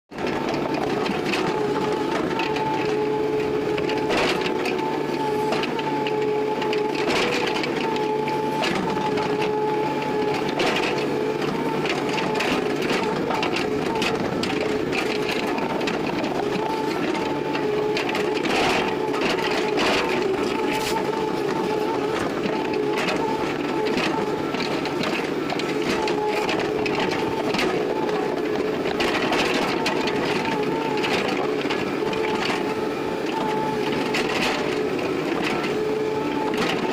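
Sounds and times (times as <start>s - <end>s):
excavator engine whine: 0.1s - 36.9s.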